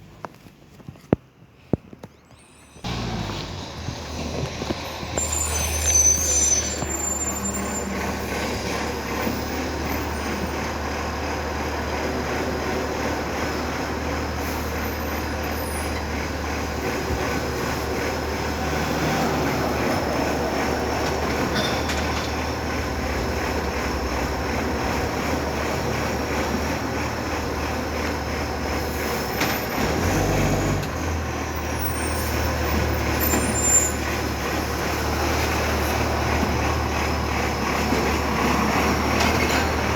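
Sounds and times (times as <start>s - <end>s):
garbage truck engine drone: 2.8s - 39.9s.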